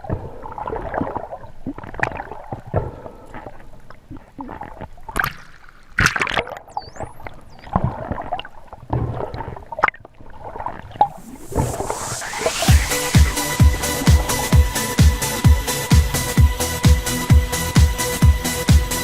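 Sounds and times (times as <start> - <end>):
underwater water noise: 0.0 - 16.2.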